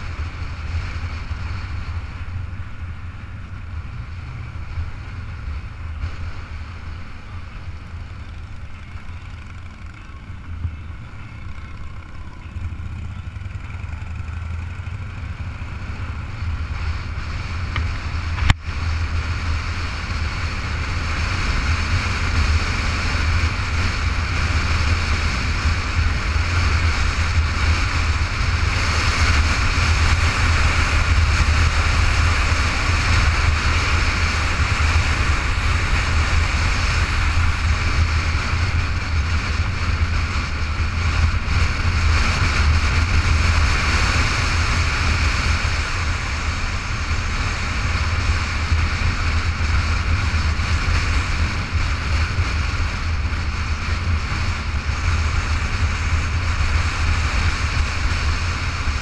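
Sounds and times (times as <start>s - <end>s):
motorcycle engine: 0.0s - 59.0s
road noise: 0.0s - 59.0s
wind rushing on microphone: 0.0s - 59.0s.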